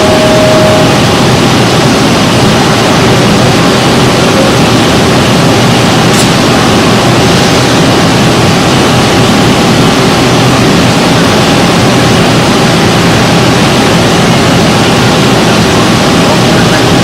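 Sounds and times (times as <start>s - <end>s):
faint machine whine: 0.0s - 17.0s
milling machine running: 0.0s - 17.0s.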